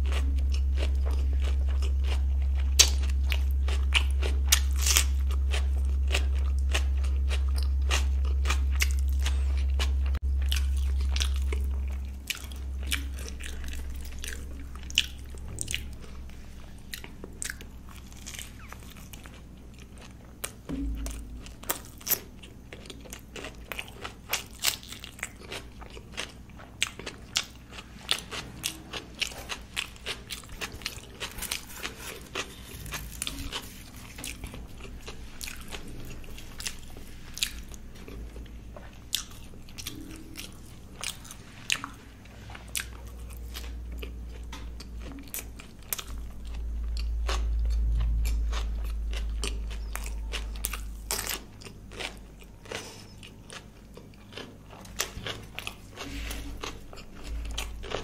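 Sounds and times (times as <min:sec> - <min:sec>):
deep rumble: 0:00.0 - 0:23.8, 0:26.6 - 0:52.6
close-up chewing mouth sounds: 0:00.0 - 0:58.0.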